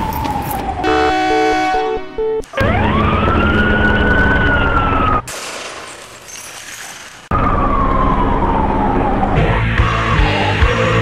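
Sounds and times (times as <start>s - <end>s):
siren wailing: 0.0s - 5.2s, 7.3s - 11.0s.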